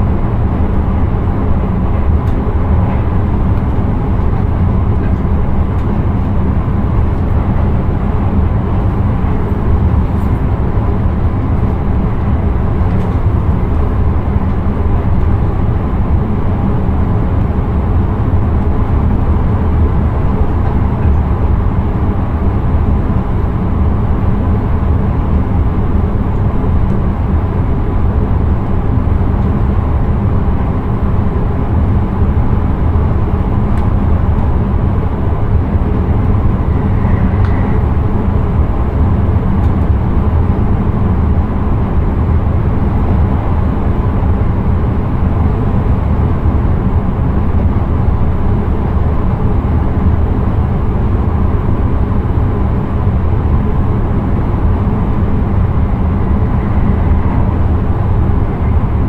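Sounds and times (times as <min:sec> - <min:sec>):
mid-range hum: 0:00.0 - 0:59.0
train wheels rumbling on rail: 0:00.0 - 0:59.0.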